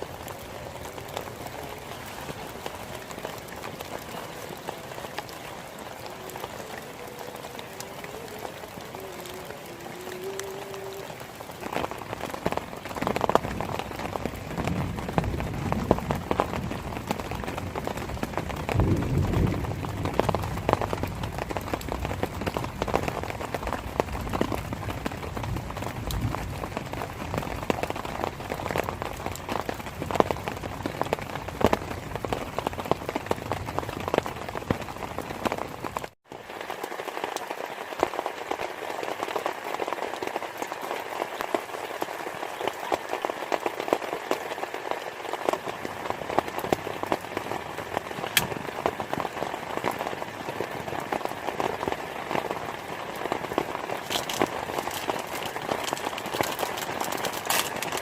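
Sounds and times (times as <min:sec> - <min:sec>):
heavy rain drops hitting surface: 0:00.0 - 0:58.0.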